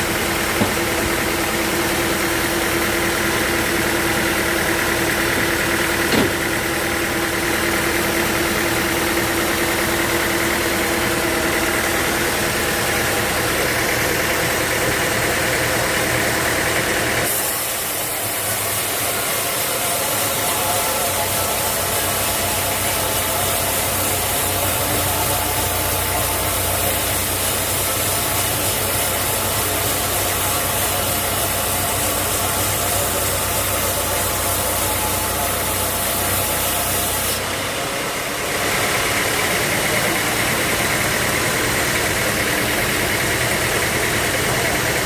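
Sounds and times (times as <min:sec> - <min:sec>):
sawmill machinery engine hum: 0:00.0 - 0:45.0.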